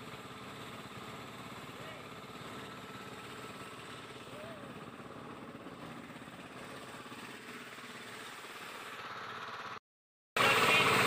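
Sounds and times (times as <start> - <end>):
small boat motor running: 0.0 - 9.8, 10.4 - 11.0.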